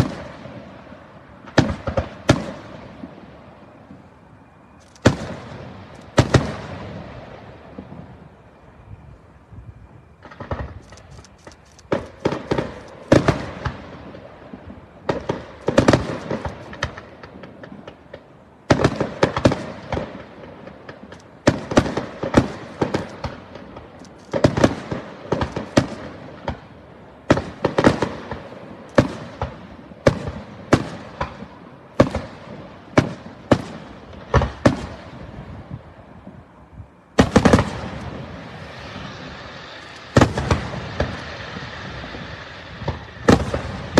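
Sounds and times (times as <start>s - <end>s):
fireworks bangs: 0.0s - 9.0s, 9.8s - 43.9s.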